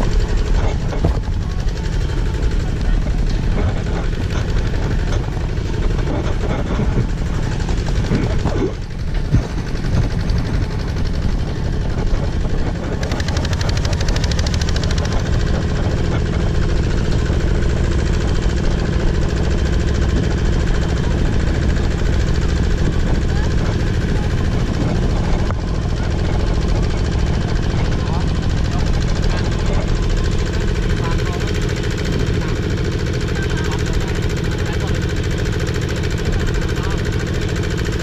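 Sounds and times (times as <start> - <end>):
tractor engine running: 0.0 - 38.0
trailer rattling over dirt track: 0.0 - 38.0.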